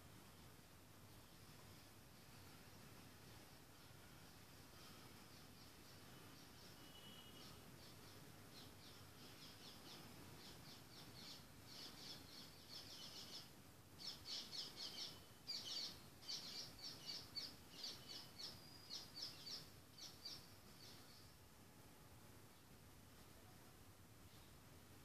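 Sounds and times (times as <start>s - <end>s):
background hiss: 0.0s - 25.0s
faint bird chirping: 0.0s - 25.0s.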